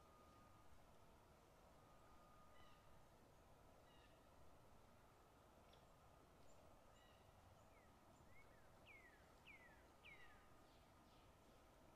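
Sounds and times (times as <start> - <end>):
soft background hiss: 0.0 - 11.9.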